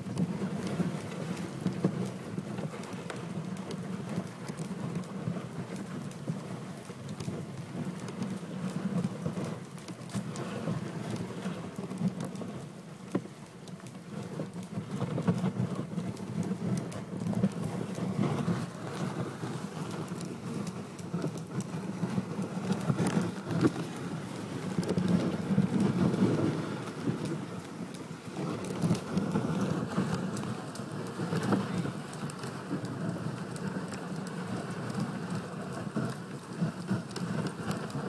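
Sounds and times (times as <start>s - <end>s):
sleigh runners and hooves crunching snow: 0.0s - 38.0s.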